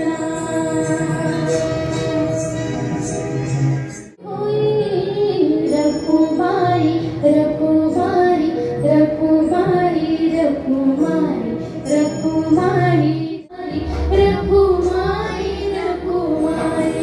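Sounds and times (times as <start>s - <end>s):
woman singing: 0.0s - 2.0s, 4.2s - 17.0s.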